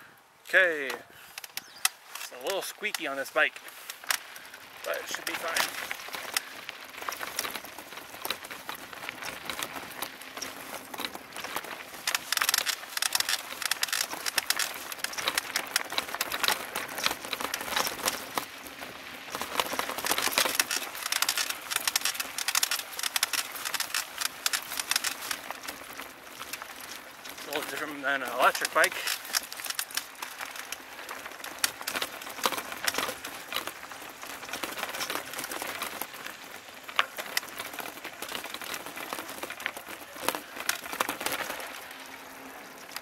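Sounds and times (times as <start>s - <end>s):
bike tyres crunching on dirt: 0.0s - 43.0s
bike frame rattling: 0.8s - 43.0s.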